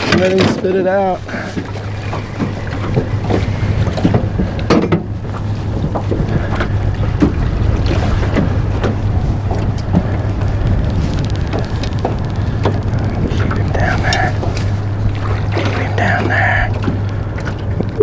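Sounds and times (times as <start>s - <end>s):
water splashes: 0.0s - 18.0s
wind buffeting microphone: 0.0s - 18.0s.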